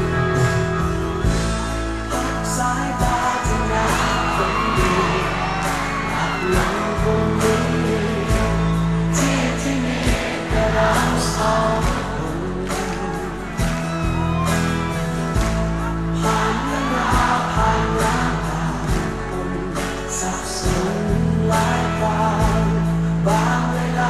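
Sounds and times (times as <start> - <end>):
pop love song with band: 0.0 - 24.0.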